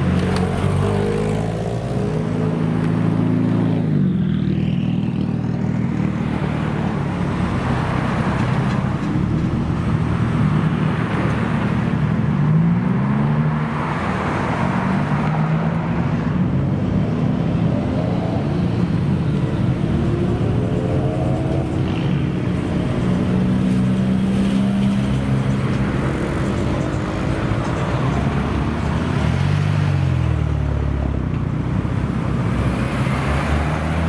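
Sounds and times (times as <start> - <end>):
car engines driving past: 0.0 - 34.0
passing traffic noise: 0.0 - 34.0.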